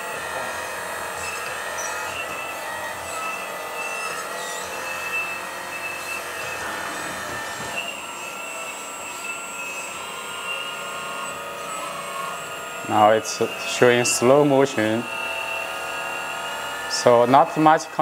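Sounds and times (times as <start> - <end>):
electric hydraulic pumps whining: 0.0 - 18.0.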